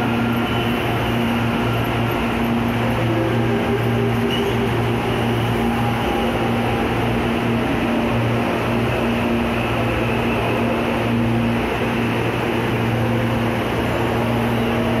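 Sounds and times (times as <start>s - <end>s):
electric train rolling to a stop: 0.0s - 15.0s.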